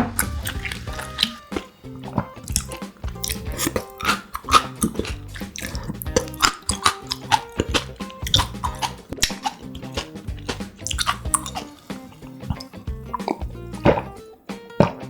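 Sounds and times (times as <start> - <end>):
chewing and wet mouth sounds: 0.1 - 14.2.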